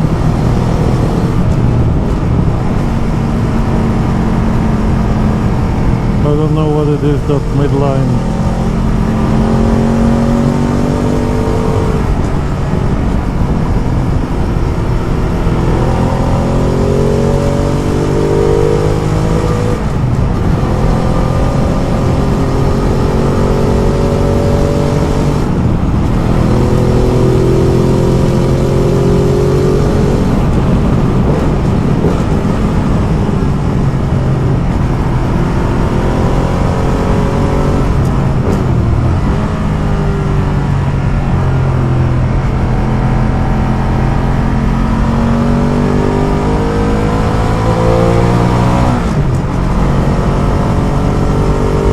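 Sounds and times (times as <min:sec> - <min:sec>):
motorcycle engine accelerating: 0:00.0 - 0:51.9
wind noise: 0:00.0 - 0:51.9.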